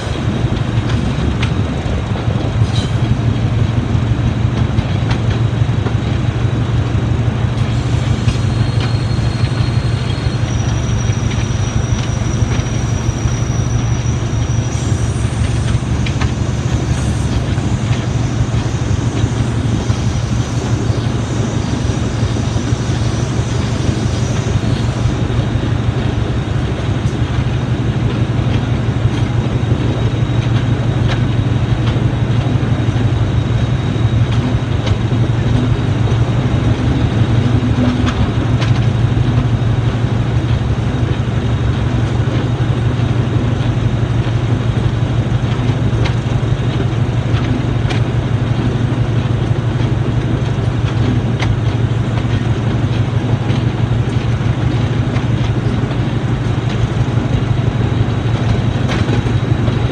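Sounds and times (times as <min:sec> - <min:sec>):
train engine drone: 0:00.0 - 0:59.9
wheels on rails: 0:00.0 - 0:59.9.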